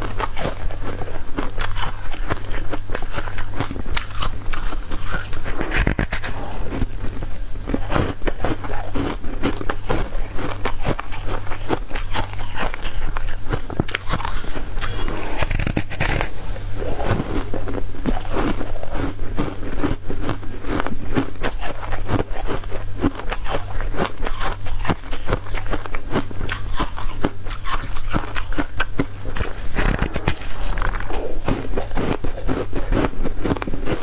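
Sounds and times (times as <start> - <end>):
crunchy chewing: 0.0 - 34.0.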